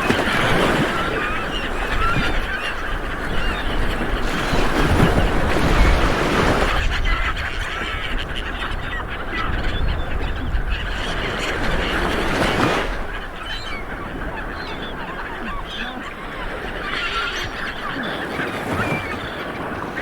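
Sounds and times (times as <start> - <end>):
waves washing onto a beach: 0.0 - 9.4, 10.0 - 20.0
bird calls: 0.0 - 20.0.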